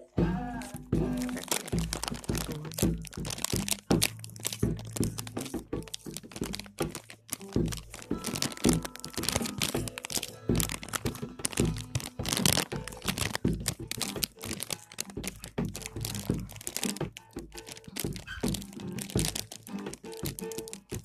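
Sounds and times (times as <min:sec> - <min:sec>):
knocks and thuds: 0:00.2 - 0:21.0
packaging crinkling: 0:00.6 - 0:21.0.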